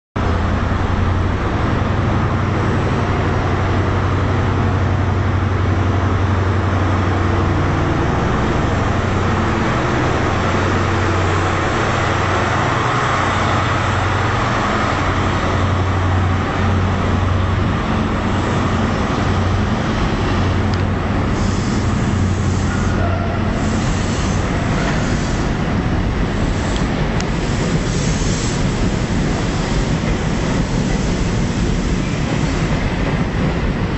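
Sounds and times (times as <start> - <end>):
diesel train engine drone: 0.2 - 33.9
train coaches rolling: 0.2 - 33.9.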